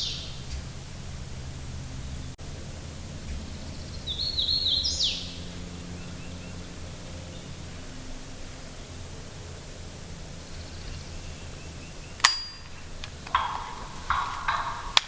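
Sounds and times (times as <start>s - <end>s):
outdoor background hum: 0.0s - 15.0s
songbird singing: 0.0s - 15.0s.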